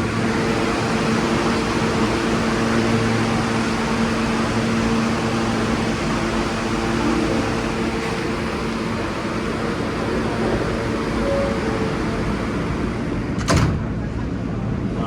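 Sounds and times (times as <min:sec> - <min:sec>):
subway train rushing: 0:00.0 - 0:15.0.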